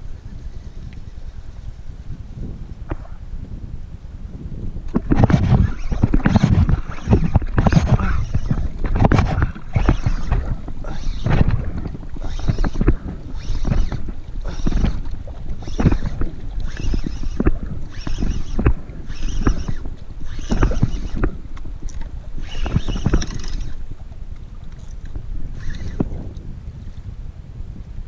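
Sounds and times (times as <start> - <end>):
fishing reel whirring and clicking: 0.0 - 2.1, 4.9 - 27.0
wind buffeting microphone: 0.0 - 28.0.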